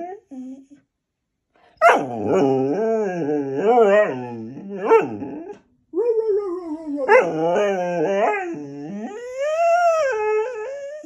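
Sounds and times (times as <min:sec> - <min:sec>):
dog whining and howling: 0:01.8 - 0:11.0.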